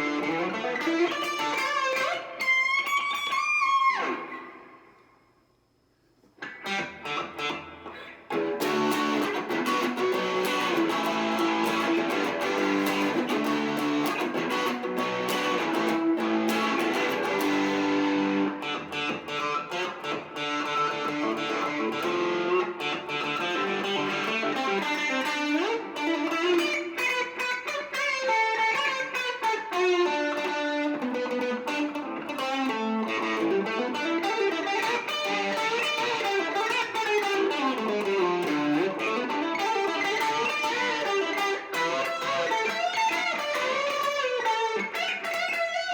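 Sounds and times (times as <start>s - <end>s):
distorted electric guitar riffing: 0.0s - 4.8s, 6.4s - 45.9s.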